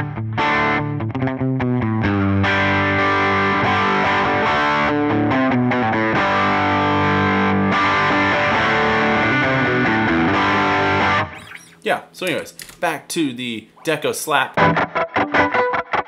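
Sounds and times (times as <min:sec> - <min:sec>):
overdriven electric guitar chords: 0:00.0 - 0:11.8, 0:14.6 - 0:16.0.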